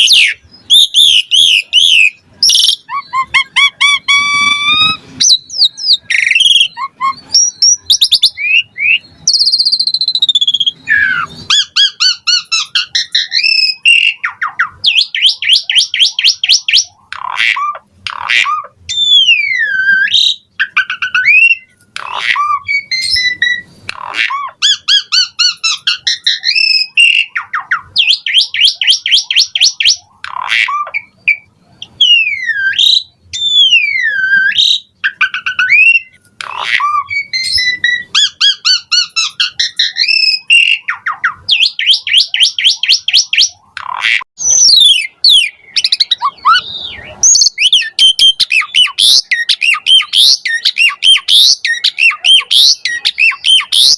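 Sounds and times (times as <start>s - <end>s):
starling singing whistles and trills: 0.0s - 53.9s.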